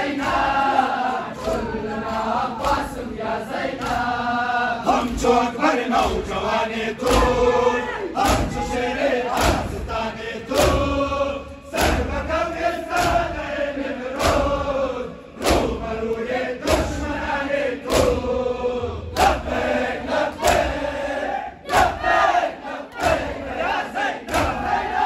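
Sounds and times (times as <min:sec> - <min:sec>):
men slapping chests in unison: 0:00.0 - 0:25.0
mournful chanting: 0:00.0 - 0:25.0.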